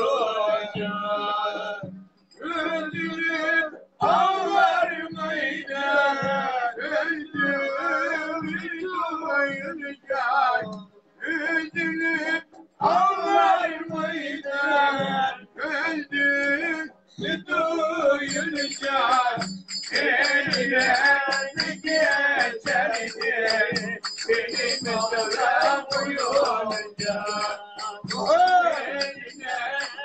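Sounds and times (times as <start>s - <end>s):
man singing: 0.0s - 30.0s.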